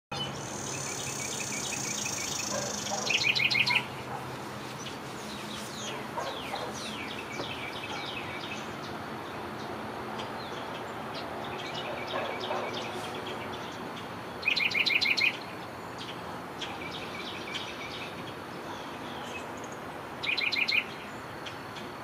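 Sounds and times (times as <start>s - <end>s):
songbirds singing: 0.1s - 22.0s.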